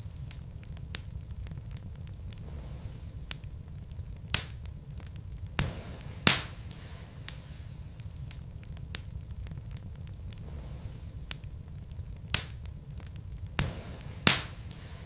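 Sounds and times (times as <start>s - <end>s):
burning logs crackling and popping: 0.0s - 15.0s
fire rumbling: 0.0s - 15.0s.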